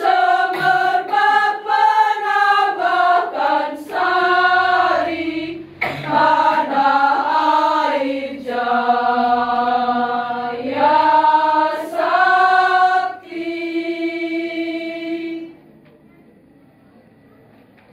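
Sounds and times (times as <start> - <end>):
women's choir singing: 0.0 - 15.6.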